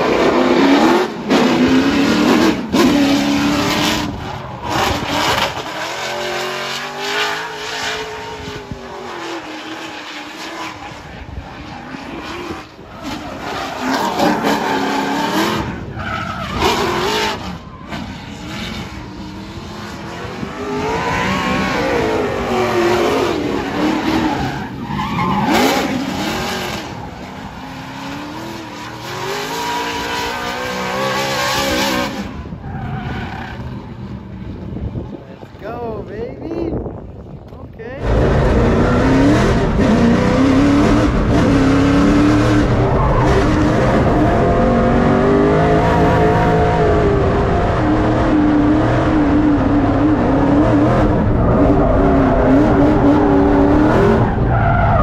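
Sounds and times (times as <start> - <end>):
car engine revving: 0.0 - 32.6, 38.0 - 55.0.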